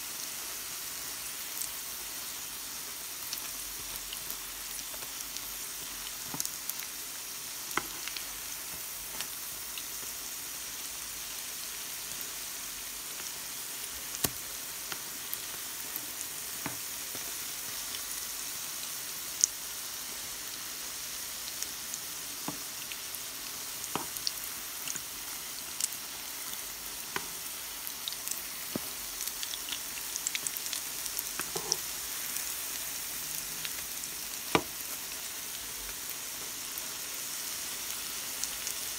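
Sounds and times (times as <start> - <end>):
fritters sizzling in oil: 0.0 - 38.9.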